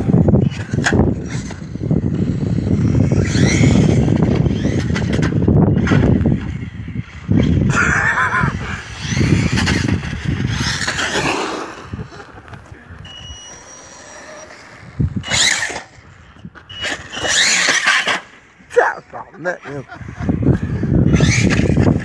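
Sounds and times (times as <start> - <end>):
electric motor whine: 0.0 - 22.0
tyre and drivetrain noise: 0.0 - 22.0.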